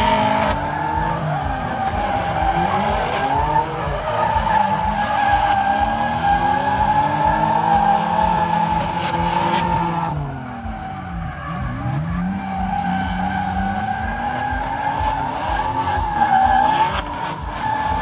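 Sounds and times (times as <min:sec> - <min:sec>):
car engines revving high: 0:00.0 - 0:18.0
tyres squealing: 0:00.0 - 0:18.0.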